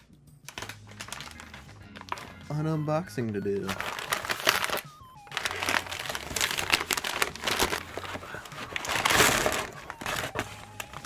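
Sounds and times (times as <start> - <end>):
paper bag crinkling: 0.5 - 11.0.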